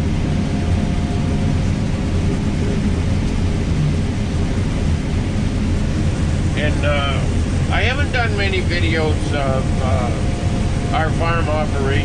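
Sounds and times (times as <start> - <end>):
farm machinery engine drone: 0.0 - 12.0
rushing noise: 0.0 - 12.0.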